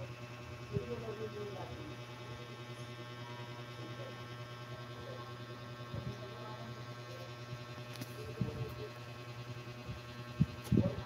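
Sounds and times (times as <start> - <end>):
electrical hum with buzz: 0.0 - 11.0.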